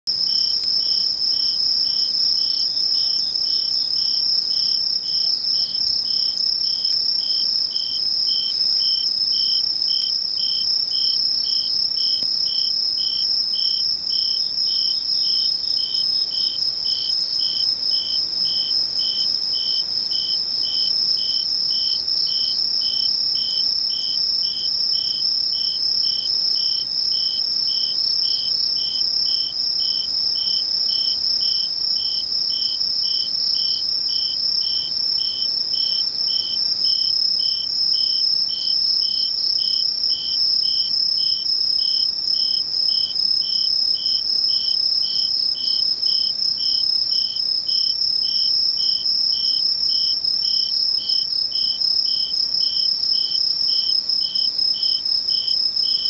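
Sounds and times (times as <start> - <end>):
insect chirping rhythmically: 0.1 - 56.0.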